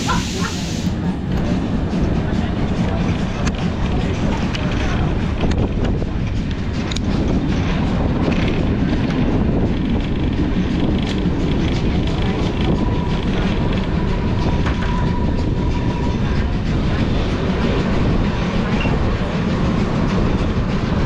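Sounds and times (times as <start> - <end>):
clickety-clack over rail joints: 0.0 - 21.0
train rolling on track: 0.0 - 21.0.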